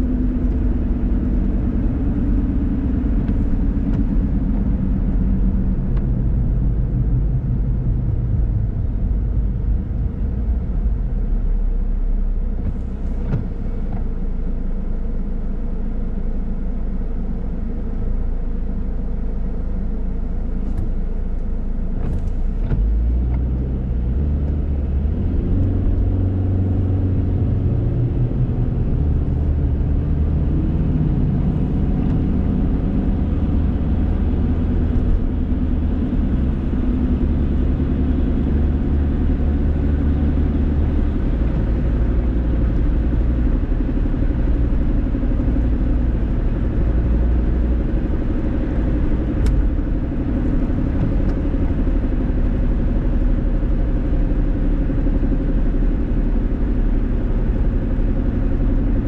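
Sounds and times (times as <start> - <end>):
car engine: 0.0 - 59.0.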